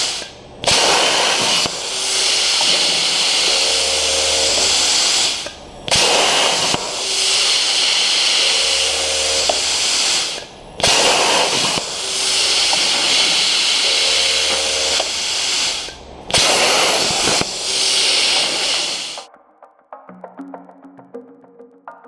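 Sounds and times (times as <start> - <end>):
plasma torch hissing: 0.0 - 19.3.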